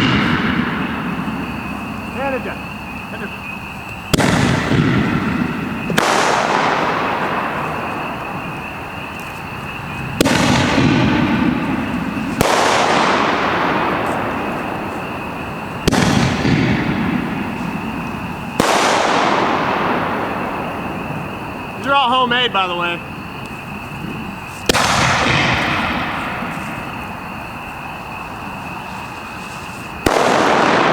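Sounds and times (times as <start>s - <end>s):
firework shells bursting: 3.1s - 27.2s, 29.6s - 30.9s.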